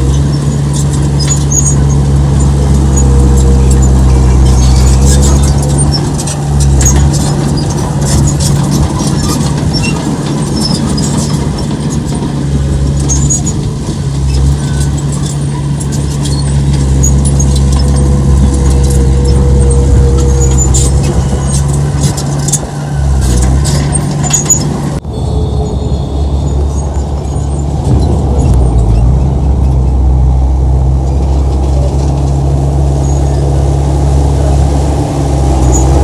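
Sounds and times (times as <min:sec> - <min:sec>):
high clicks and squeaks: 0:00.0 - 0:30.1
heavy machinery engine rumbling: 0:00.0 - 0:36.0.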